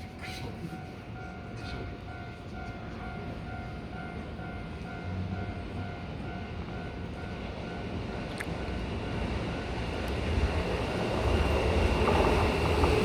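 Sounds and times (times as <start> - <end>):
trains rumbling on rails: 0.0 - 13.0.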